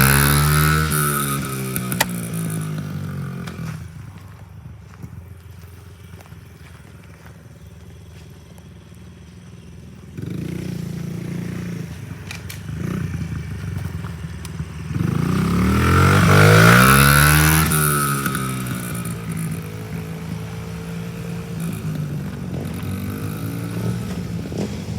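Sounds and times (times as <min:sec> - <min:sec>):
dirt bike engine revving: 0:00.0 - 0:04.4, 0:08.3 - 0:24.9.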